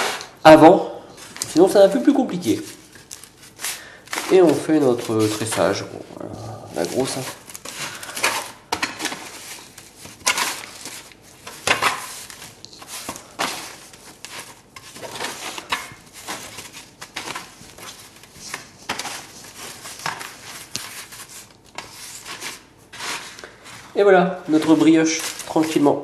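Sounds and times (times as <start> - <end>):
baking sheet rustling and crinkling: 0.0 - 0.4, 1.1 - 26.0.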